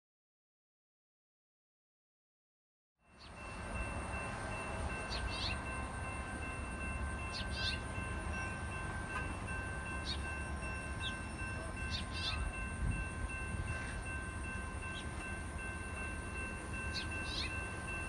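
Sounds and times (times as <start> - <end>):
railroad crossing bells ringing: 3.0 - 18.0.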